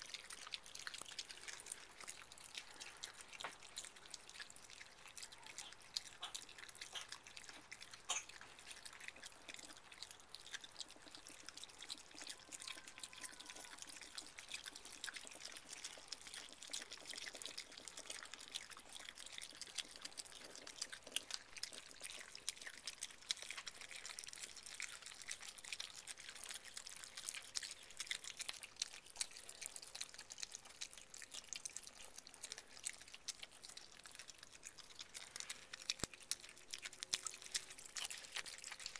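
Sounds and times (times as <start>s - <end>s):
animals chewing wet food: 0.0s - 38.9s.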